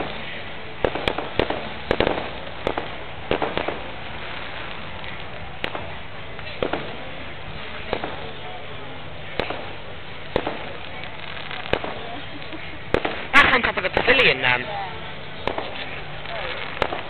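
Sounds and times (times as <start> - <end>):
fireworks bangs: 0.0 - 17.0
steady background noise: 0.0 - 17.0.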